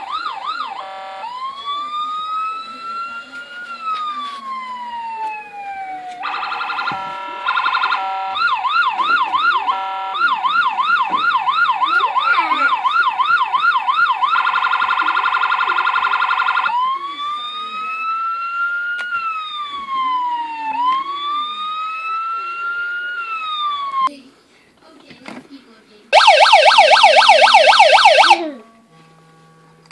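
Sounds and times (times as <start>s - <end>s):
electronic toy police siren: 0.0s - 24.1s, 26.2s - 28.4s.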